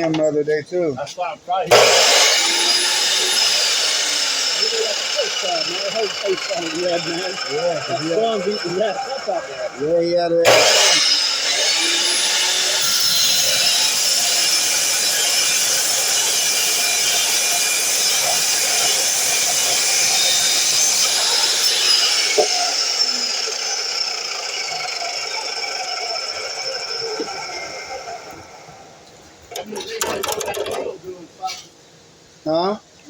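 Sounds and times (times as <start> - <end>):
miter saw motor whine: 1.7 - 28.9.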